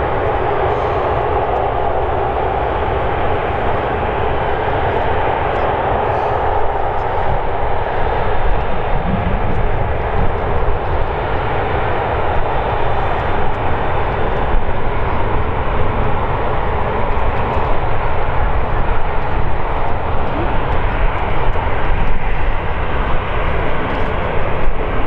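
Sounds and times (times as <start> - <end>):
jet engines rumbling at taxi power: 0.0 - 25.0.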